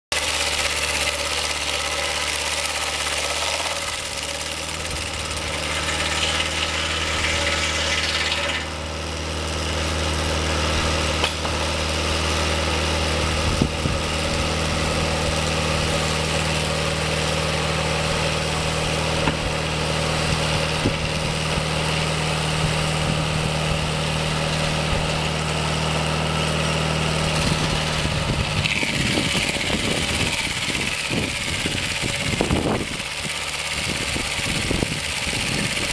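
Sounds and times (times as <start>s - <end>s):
band saw cutting log: 0.1s - 35.9s
sawmill engine running: 0.1s - 35.9s.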